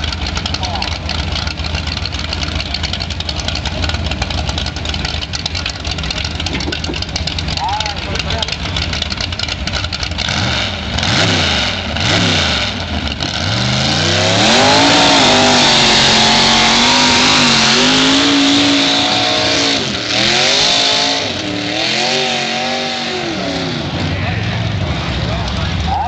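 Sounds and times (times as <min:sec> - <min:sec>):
tractor engine revving hard: 0:00.0 - 0:26.0.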